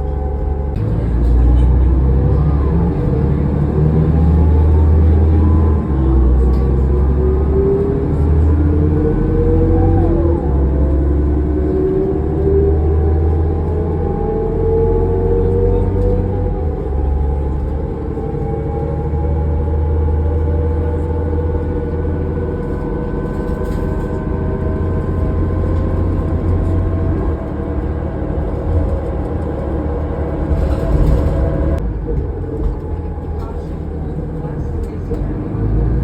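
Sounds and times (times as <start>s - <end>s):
bus driveline rumble: 0.0s - 36.0s
howling whine: 0.0s - 36.0s.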